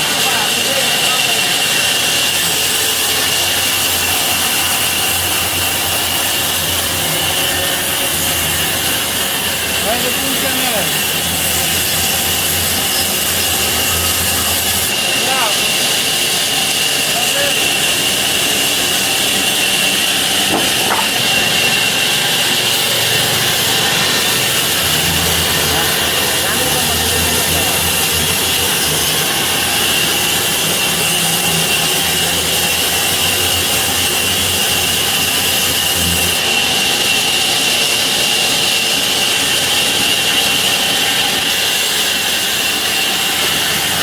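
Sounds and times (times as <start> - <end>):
saw cutting wood: 0.0 - 44.0.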